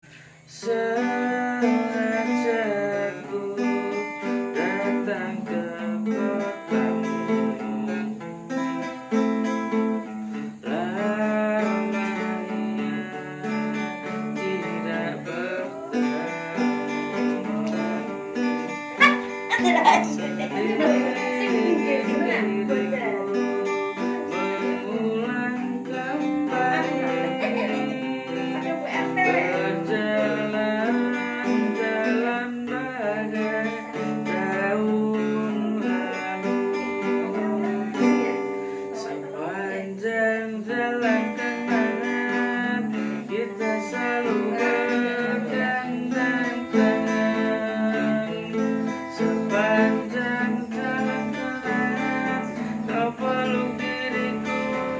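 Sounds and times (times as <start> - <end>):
acoustic guitar strumming: 0.0 - 54.9
guitar melody bending in pitch: 0.6 - 54.9.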